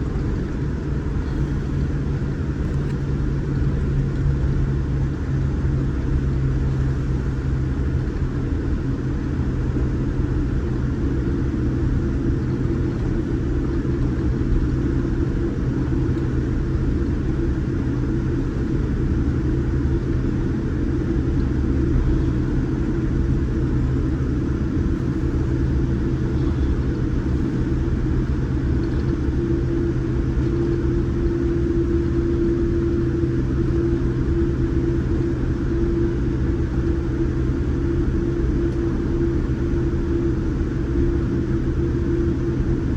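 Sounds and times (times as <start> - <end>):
airplane cabin engine drone: 0.0 - 42.9.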